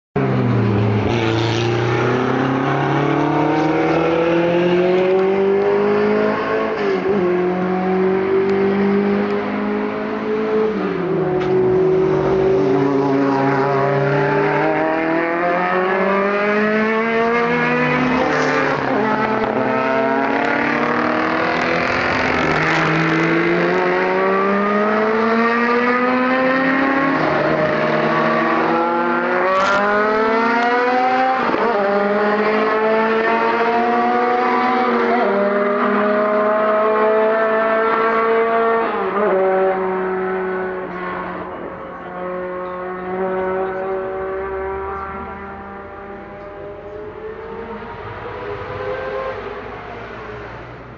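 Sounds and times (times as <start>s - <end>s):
race car engines at full throttle: 0.2s - 50.9s.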